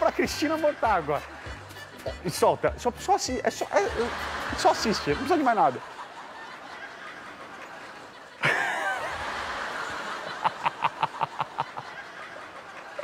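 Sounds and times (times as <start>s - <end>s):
person laughing rhythmically: 0.0s - 13.0s.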